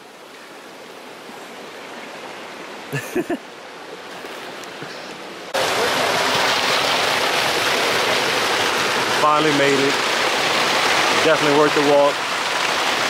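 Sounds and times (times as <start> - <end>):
water rushing and splashing: 0.0 - 13.0.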